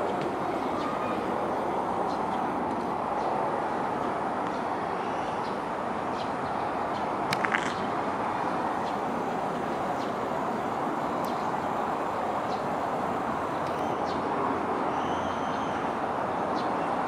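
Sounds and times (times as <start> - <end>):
distant city traffic: 0.0 - 17.0.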